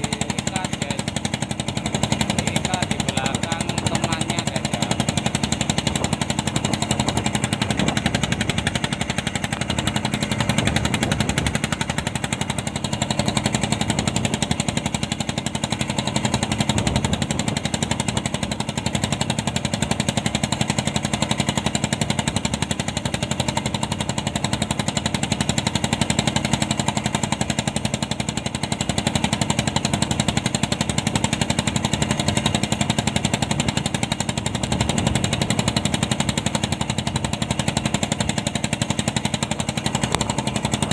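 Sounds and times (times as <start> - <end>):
boat engine running: 0.0 - 40.9.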